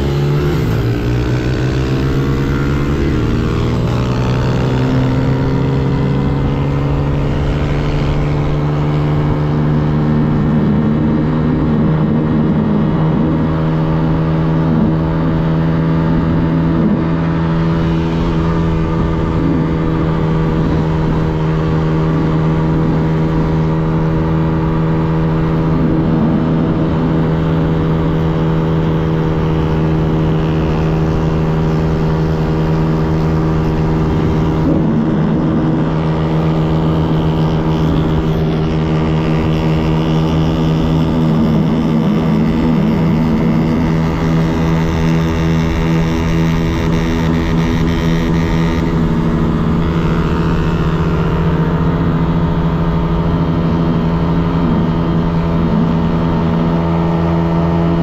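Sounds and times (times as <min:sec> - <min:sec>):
small motorbike engine running hard: 0:00.0 - 0:58.0.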